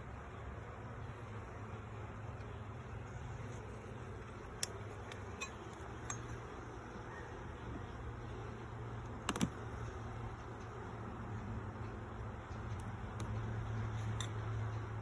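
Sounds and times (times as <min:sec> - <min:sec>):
bees humming: 0:00.0 - 0:15.0.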